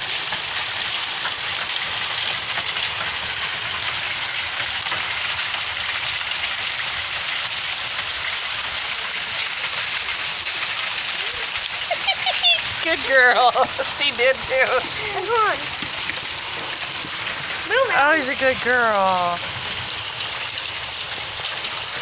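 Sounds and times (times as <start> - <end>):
hail pattering on ground: 0.0 - 22.0.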